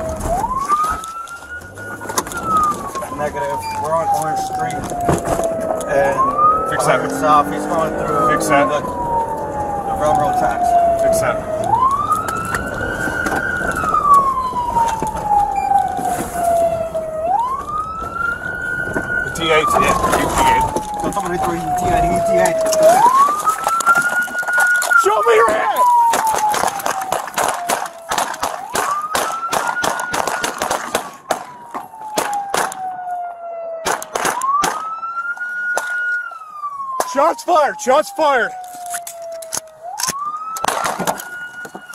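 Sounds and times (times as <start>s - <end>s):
police siren wailing: 0.0s - 41.9s
road noise: 0.0s - 41.9s.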